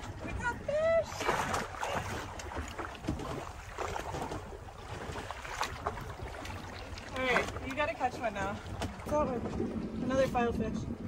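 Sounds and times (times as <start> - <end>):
water sloshing against boat hull: 0.0 - 11.0
water splashing: 0.0 - 11.0
wind on microphone: 0.0 - 11.0.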